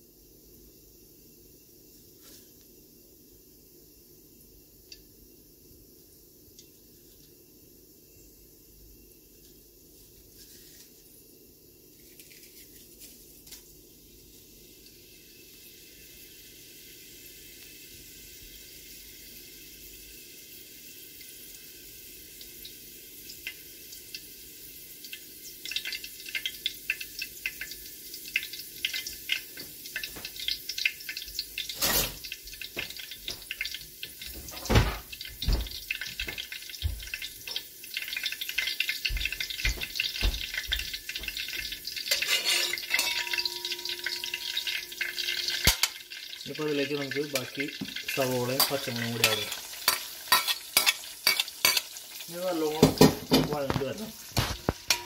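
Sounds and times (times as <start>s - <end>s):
spices crackling in hot oil: 3.6s - 55.0s.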